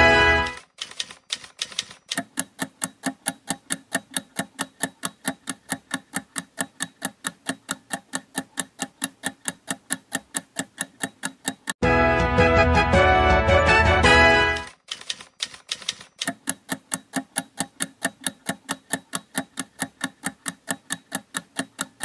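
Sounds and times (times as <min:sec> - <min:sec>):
fast timer ticks: 0:00.2 - 0:11.8, 0:14.6 - 0:22.0.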